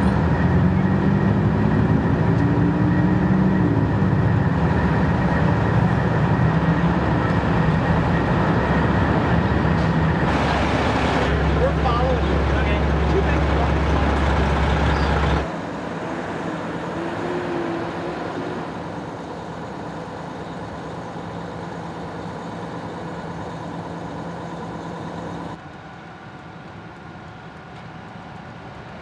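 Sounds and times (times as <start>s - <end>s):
idling heavy vehicles: 0.0s - 29.0s
road traffic rumble: 0.0s - 29.0s.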